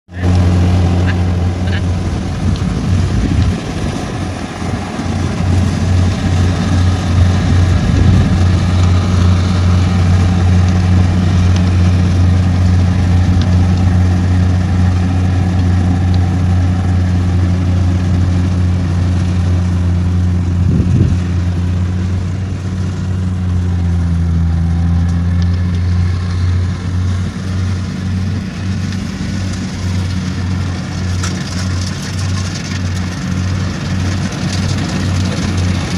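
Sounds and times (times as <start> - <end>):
combine harvester diesel engine: 0.1 - 35.9.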